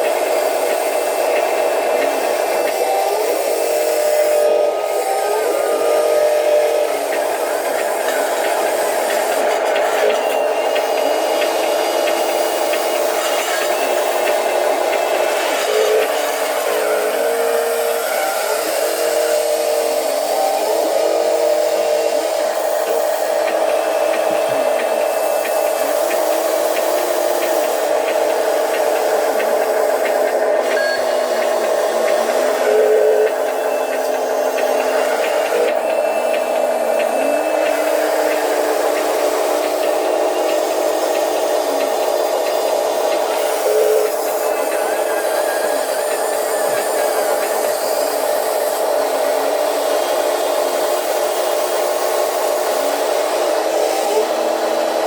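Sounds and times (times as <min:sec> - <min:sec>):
electric motors whining hum: 0:00.0 - 0:55.0.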